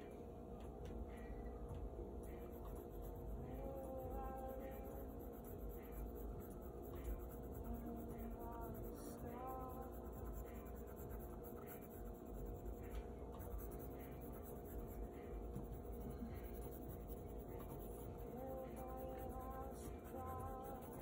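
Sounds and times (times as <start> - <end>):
pencil scratching on paper: 2.2 - 21.0.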